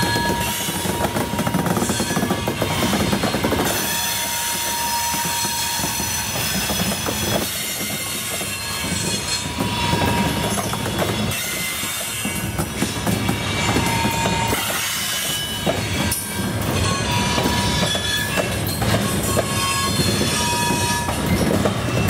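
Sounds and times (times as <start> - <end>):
train wheels clattering over rail joints: 0.0 - 22.0
wheels squealing: 0.0 - 22.0.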